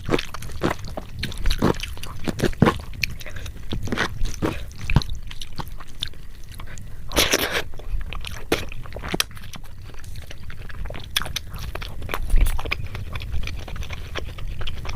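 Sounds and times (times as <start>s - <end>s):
crunchy chewing: 0.0s - 14.9s.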